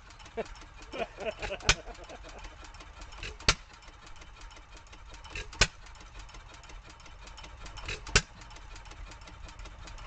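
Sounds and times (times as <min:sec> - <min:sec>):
engine coasting rumble: 0:00.0 - 0:10.0
faint ticking: 0:00.0 - 0:10.0.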